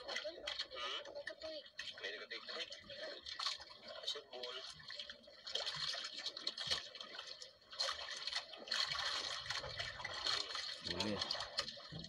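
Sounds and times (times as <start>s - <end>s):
seawater splashing around boat: 1.9s - 12.0s.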